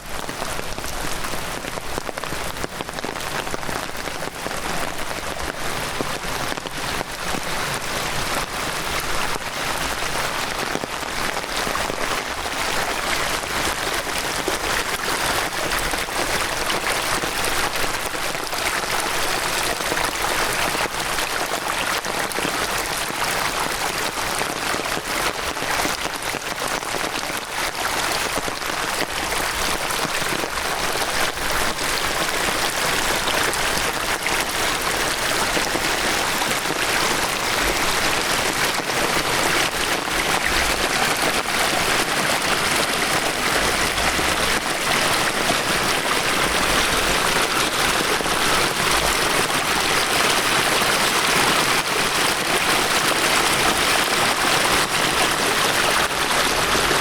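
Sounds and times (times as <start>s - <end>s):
heavy rain pattering: 0.0s - 57.0s
rushing water: 0.0s - 57.0s.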